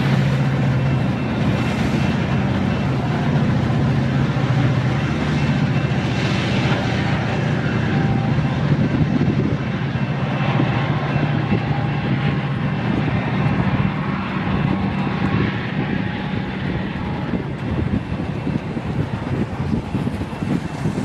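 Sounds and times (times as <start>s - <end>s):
diesel locomotive rumble: 0.0s - 21.0s
train wheels rolling on rails: 0.0s - 21.0s.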